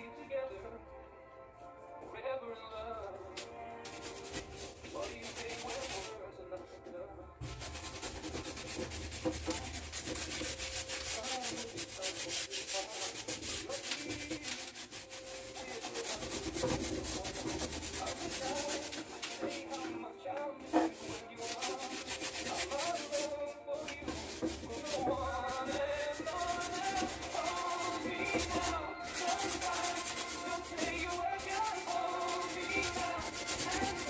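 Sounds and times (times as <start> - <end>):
painting tool rubbing on canvas: 3.9 - 6.2, 7.4 - 20.0, 20.6 - 34.0.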